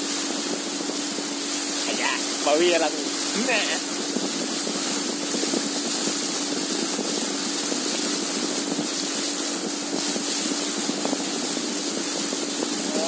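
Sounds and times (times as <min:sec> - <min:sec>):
motorboat engine humming: 0:00.0 - 0:13.0
water and wind hiss: 0:00.0 - 0:13.0.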